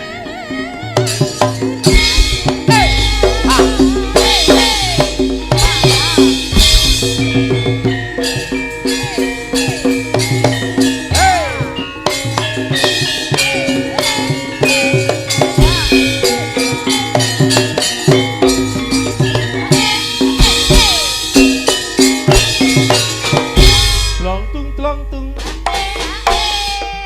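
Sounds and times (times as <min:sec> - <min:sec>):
ringing metallophone notes: 0:00.0 - 0:27.0
hand drum patterns: 0:00.9 - 0:24.5.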